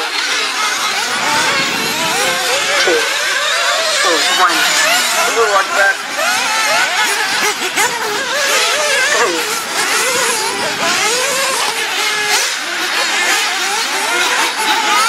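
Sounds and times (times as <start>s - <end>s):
small engines revving high-pitched: 0.0s - 15.0s.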